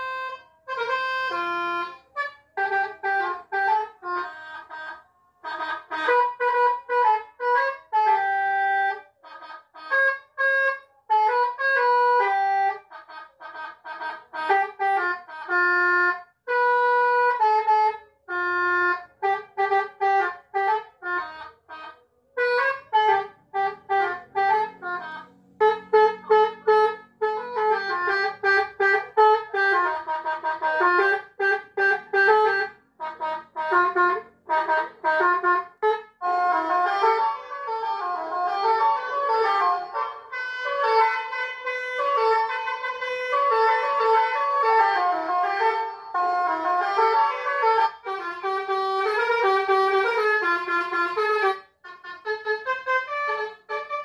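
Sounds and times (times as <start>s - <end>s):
electronic horn melody: 0.0s - 54.0s.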